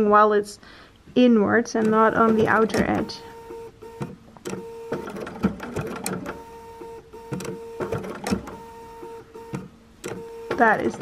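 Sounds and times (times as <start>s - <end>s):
sewing machine motor whine: 1.8s - 11.0s
sewing machine needle clicks: 1.8s - 11.0s.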